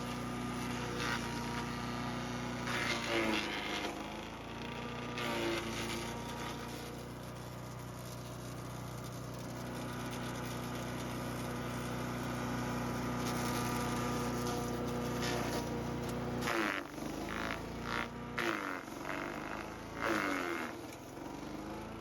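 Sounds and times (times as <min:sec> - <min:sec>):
wood chipper engine running: 0:00.0 - 0:22.0.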